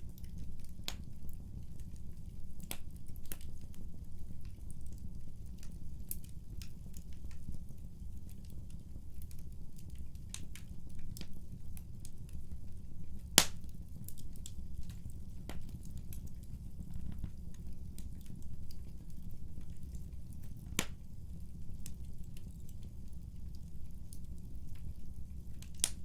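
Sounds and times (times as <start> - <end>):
wood fire crackling in fireplace: 0.0 - 26.0.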